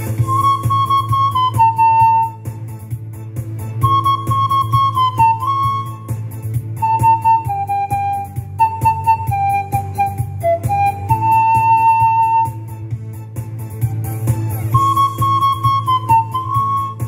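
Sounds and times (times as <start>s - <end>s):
pan flute melody: 0.0s - 2.8s, 3.7s - 12.9s, 13.8s - 17.0s
backing track with steady beat: 0.0s - 17.0s.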